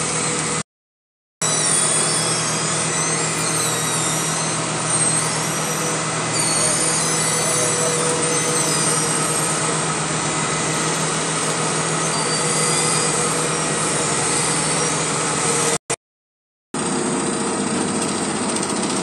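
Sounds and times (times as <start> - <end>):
paver diesel engine drone: 0.0 - 0.6, 1.4 - 15.8, 16.8 - 19.0.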